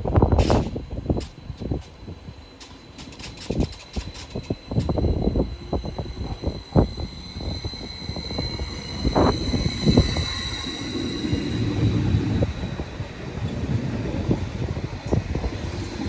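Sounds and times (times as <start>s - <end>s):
high-pitched whine: 0.0s - 16.0s
train rumbling: 0.0s - 16.0s.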